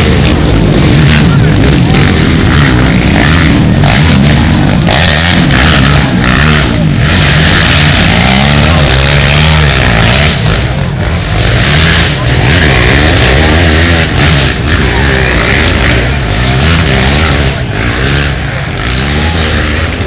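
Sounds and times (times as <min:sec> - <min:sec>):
atv engines revving: 0:00.0 - 0:20.0.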